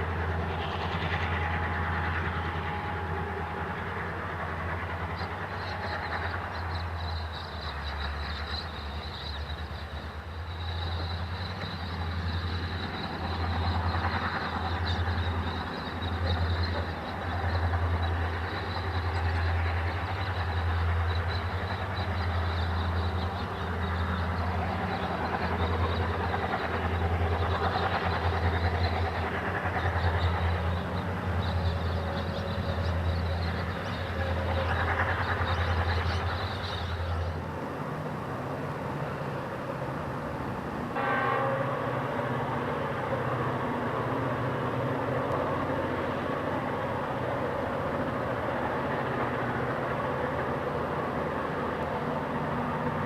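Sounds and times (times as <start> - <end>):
locomotive engine throb: 0.0 - 53.0
rail noise: 0.0 - 53.0.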